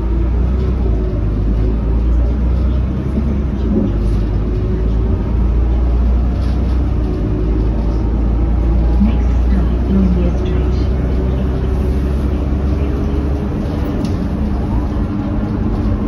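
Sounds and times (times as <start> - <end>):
bus diesel engine drone: 0.0 - 16.0
road rumble: 0.0 - 16.0.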